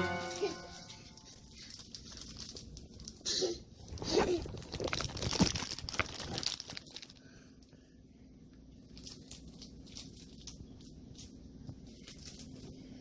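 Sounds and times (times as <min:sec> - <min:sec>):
crinkling and rustling handling: 0:00.0 - 0:07.8, 0:08.5 - 0:13.0.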